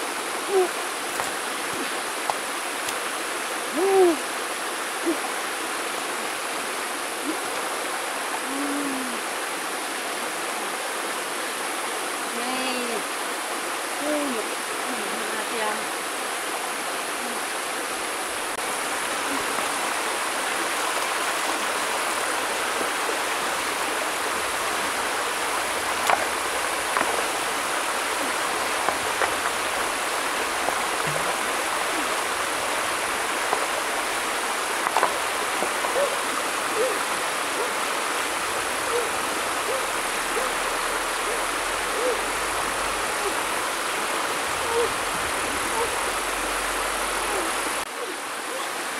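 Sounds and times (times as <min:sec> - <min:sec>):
water splashes: 0:00.0 - 0:11.6, 0:12.3 - 0:48.9
river rapids rushing over rocks: 0:00.0 - 0:48.9.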